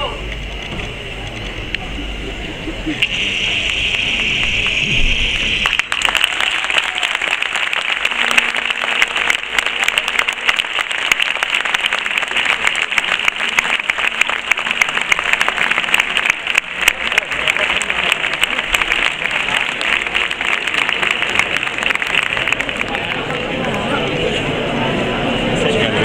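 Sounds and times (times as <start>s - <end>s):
crowd applauding: 3.0s - 24.3s.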